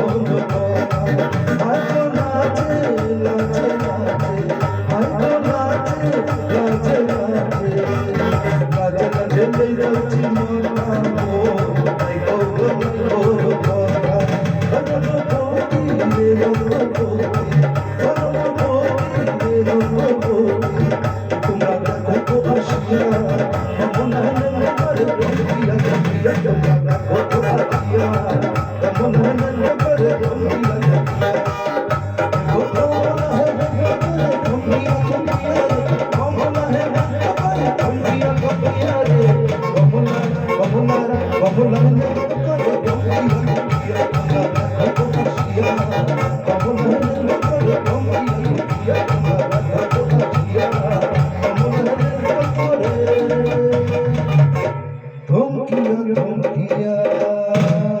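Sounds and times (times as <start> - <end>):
hand drum rhythm: 0.0 - 54.8, 55.8 - 58.0.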